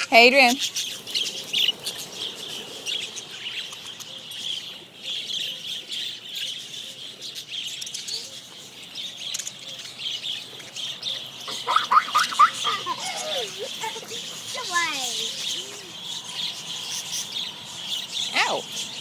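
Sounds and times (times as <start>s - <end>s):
budgerigars chattering: 0.0s - 19.0s.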